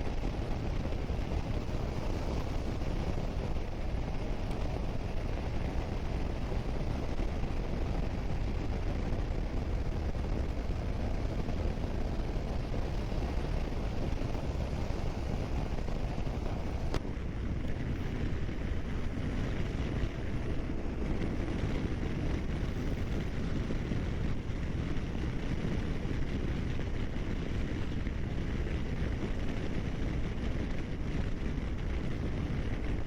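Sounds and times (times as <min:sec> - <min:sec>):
motorcycle engine and road noise: 0:00.0 - 0:33.0
wind rushing over microphone: 0:00.0 - 0:33.0.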